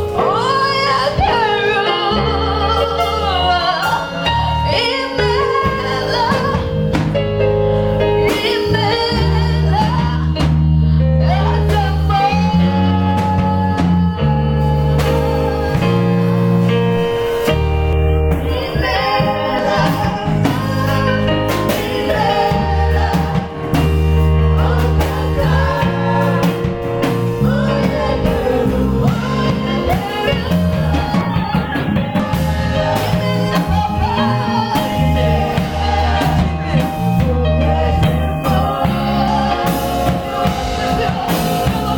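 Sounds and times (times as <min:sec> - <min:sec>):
gospel singing over a band: 0:00.0 - 0:41.9.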